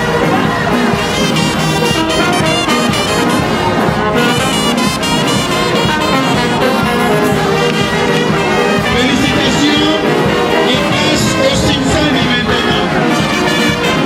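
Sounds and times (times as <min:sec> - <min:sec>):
bass drum beat: 0:00.0 - 0:14.0
brass band playing: 0:00.0 - 0:14.0.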